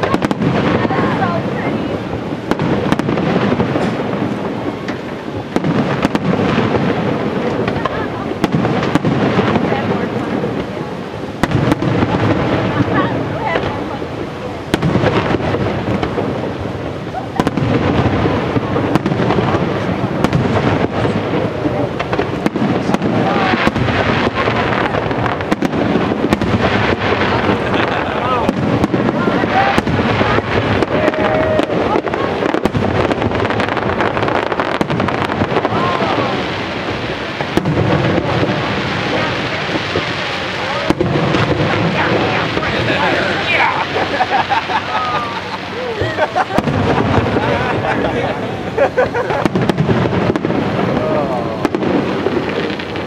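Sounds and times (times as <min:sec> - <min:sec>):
continuous fireworks rumble: 0:00.0 - 0:53.0
fireworks booming: 0:00.0 - 0:53.0.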